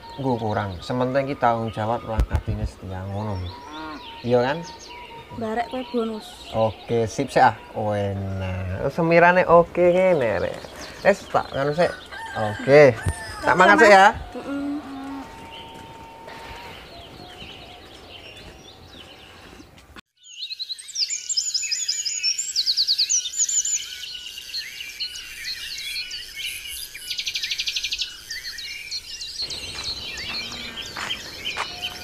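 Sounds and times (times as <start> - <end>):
birds chirping in chorus: 0.0 - 32.0.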